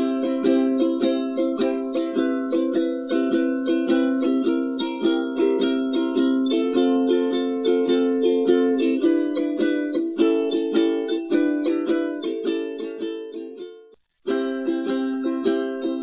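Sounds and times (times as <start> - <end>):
ukulele strumming chords: 0.0 - 16.0.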